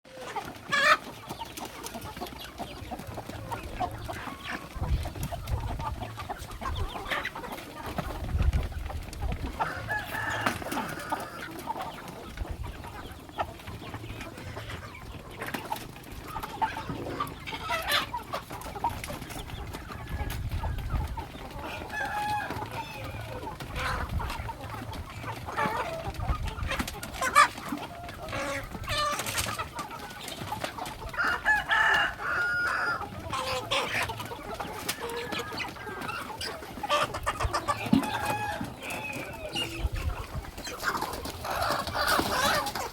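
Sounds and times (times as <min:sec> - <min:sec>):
chickens clucking: 0:00.1 - 0:42.9.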